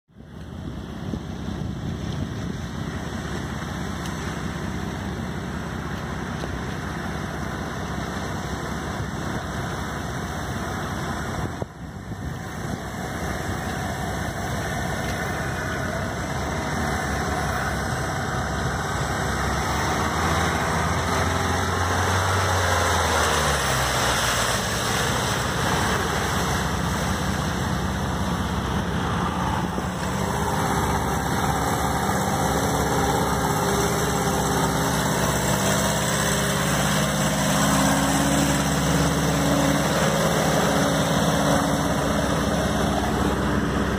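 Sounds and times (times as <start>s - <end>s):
diesel engine driving through mud: 0.1s - 43.9s
steady broad noise: 7.0s - 43.9s.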